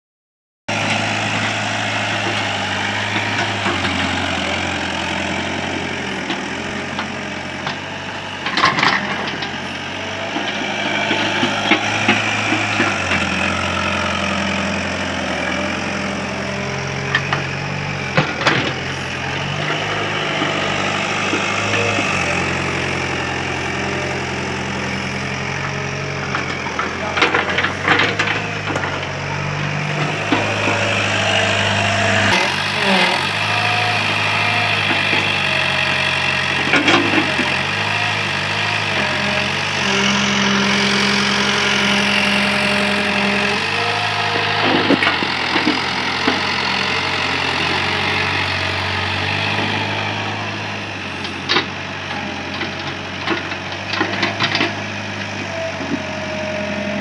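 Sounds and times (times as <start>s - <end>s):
excavator diesel engine running: 0.7s - 57.0s.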